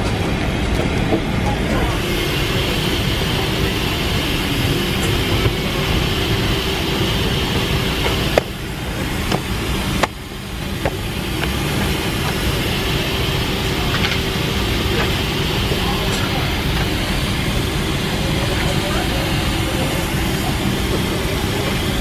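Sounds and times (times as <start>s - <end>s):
airliner cabin noise: 0.0s - 22.0s.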